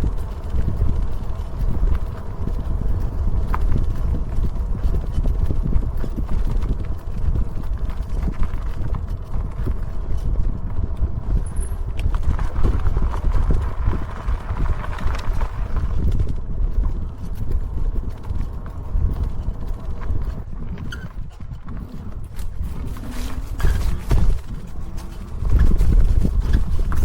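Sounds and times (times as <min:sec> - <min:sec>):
knocks and rattles over rough ground: 0:00.0 - 0:27.0
wind rumbling on microphone: 0:00.0 - 0:27.0.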